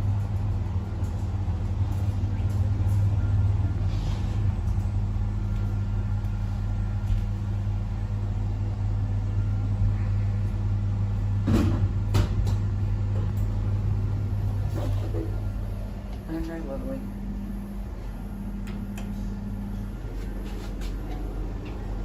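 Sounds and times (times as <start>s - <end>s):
lift humming: 0.0s - 22.0s.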